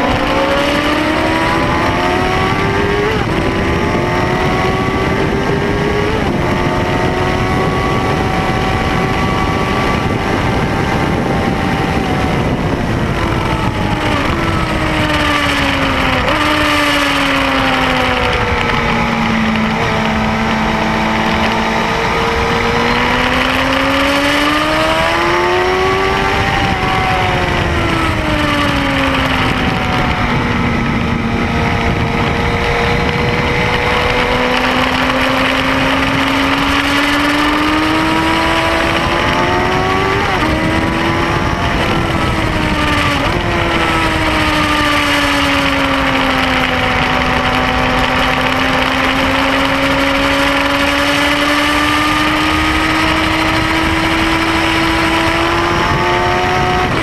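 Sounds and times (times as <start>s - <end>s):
motorcycle engine: 0.0s - 57.0s
wind rushing: 0.0s - 57.0s.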